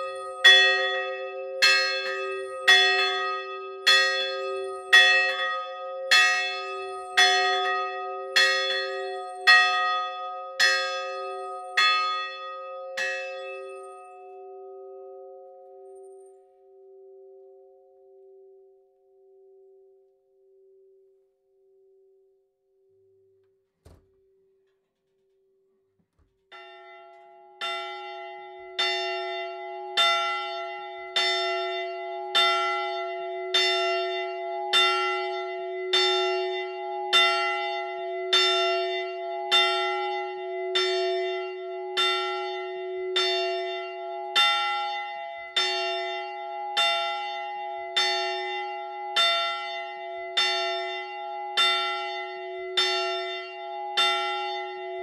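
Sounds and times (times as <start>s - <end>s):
church bell tolling: 0.0s - 19.8s, 26.5s - 55.0s.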